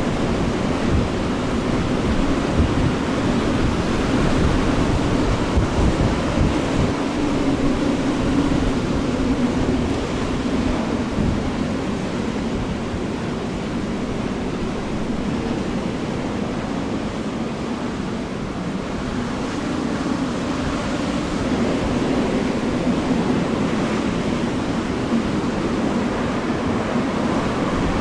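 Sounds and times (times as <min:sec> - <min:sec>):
storm wind on microphone: 0:00.0 - 0:28.0.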